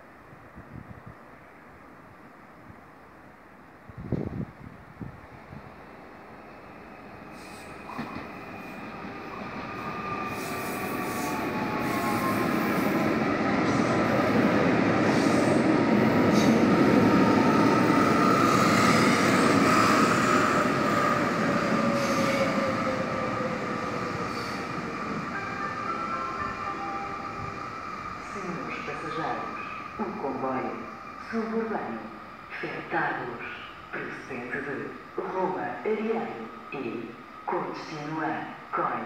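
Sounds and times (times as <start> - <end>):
high train whine: 0.0 - 39.0
train rolling past: 4.1 - 38.7.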